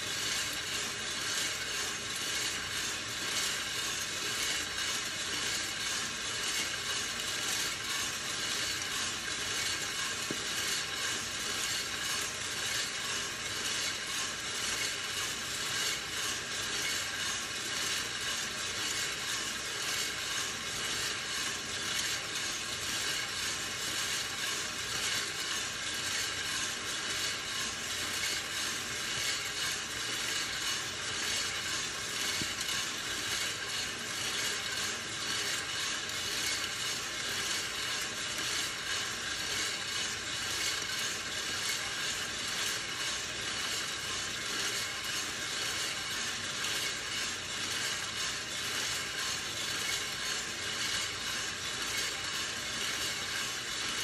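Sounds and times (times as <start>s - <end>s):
coffee beans rattling in drum: 0.0s - 54.0s
roaster whirring: 0.0s - 54.0s.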